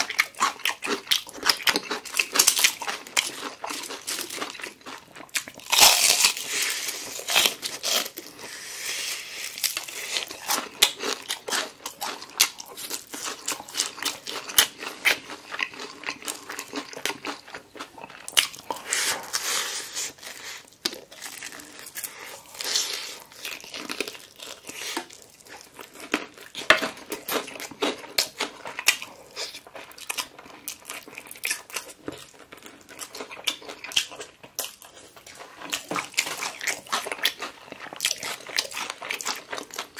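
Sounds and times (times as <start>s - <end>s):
crispy fried chicken crunching: 0.0s - 39.9s.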